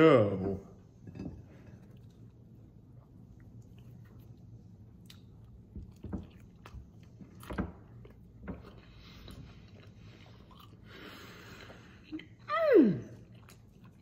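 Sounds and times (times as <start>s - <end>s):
person chewing food: 1.6s - 12.5s, 13.2s - 14.0s.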